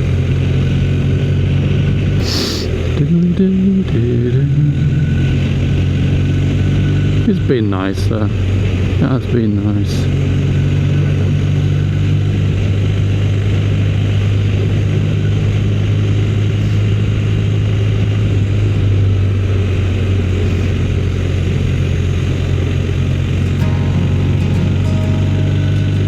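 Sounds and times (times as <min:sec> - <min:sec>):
motorcycle engine drone: 0:00.0 - 0:26.0.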